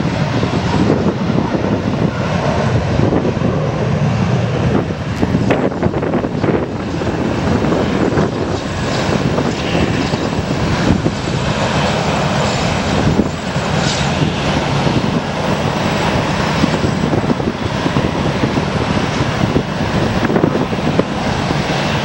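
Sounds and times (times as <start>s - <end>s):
jet engines rushing: 0.0s - 22.0s
wind buffeting microphone: 0.0s - 22.0s.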